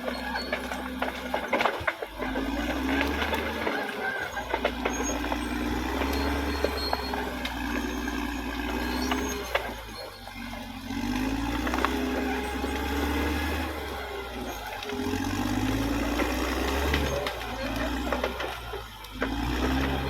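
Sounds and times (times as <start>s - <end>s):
bulldozer diesel engine running: 0.0s - 20.0s
sharp clicks and knocks: 0.0s - 20.0s.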